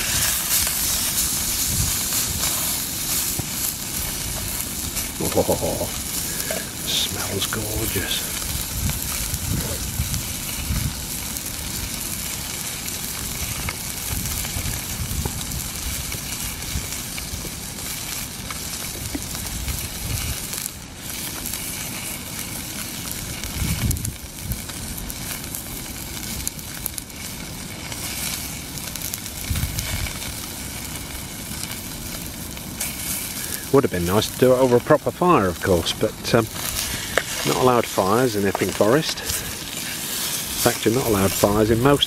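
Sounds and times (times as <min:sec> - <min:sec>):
steak sizzling in a pan: 0:00.0 - 0:42.0.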